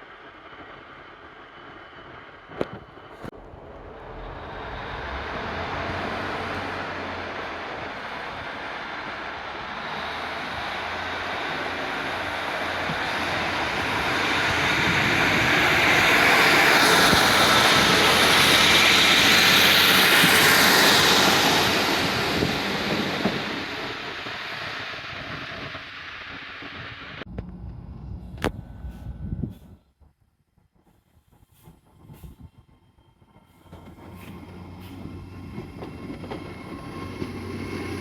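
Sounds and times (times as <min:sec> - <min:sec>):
train passing at speed: 0:00.0 - 0:29.8, 0:33.2 - 0:38.0.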